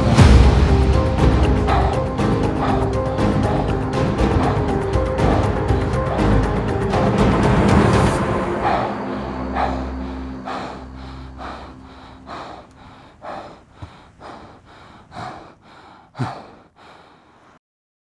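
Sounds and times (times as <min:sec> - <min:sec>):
man breathing hard: 0:00.0 - 0:17.6
man gasping: 0:01.2 - 0:17.6.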